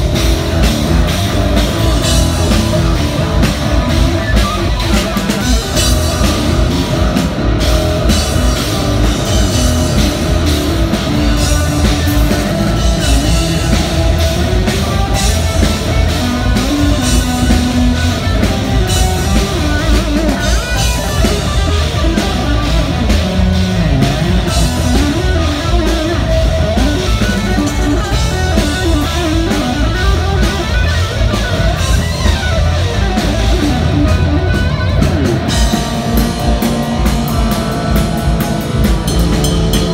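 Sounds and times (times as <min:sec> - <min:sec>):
drum kit: 0:00.0 - 0:39.9
electric bass: 0:00.0 - 0:39.9
electric guitar lead lines: 0:00.0 - 0:39.9.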